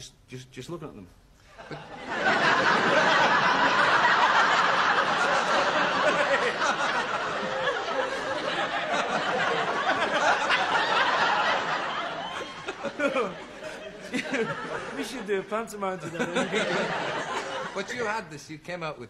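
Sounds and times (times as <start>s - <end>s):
men laughing: 1.5s - 18.1s
audience laughing loudly: 1.6s - 18.1s.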